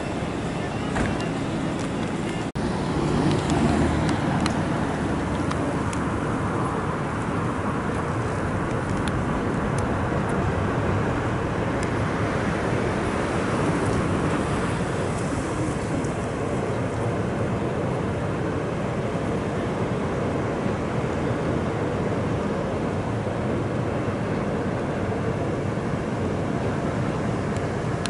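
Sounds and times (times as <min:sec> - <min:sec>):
city street traffic rumble: 0:00.0 - 0:28.0.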